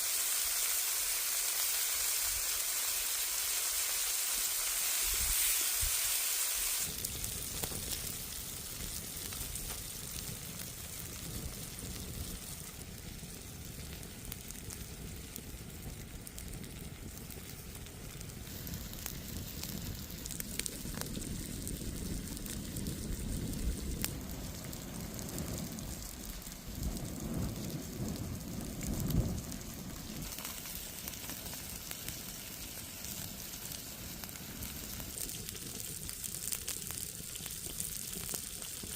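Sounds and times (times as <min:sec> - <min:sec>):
fire crackling: 0:00.0 - 0:38.9
food sizzling over a campfire: 0:00.0 - 0:38.9.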